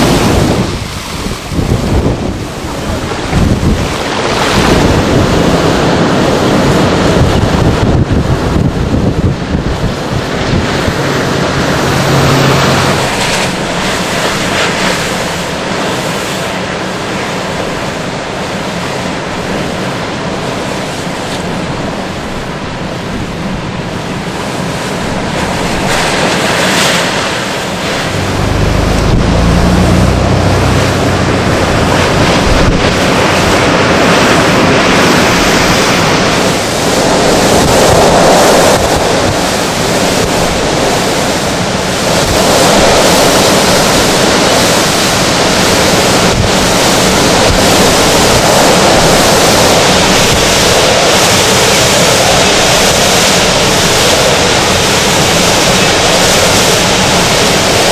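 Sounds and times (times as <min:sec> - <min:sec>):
hurricane-force wind: 0:00.0 - 0:57.9
storm surf crashing on shore: 0:00.0 - 0:57.9
wind buffeting microphone: 0:00.0 - 0:57.9.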